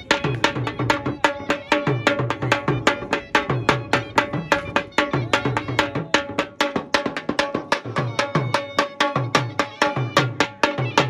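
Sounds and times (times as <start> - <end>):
barrel drum beaten fast: 0.0 - 11.0.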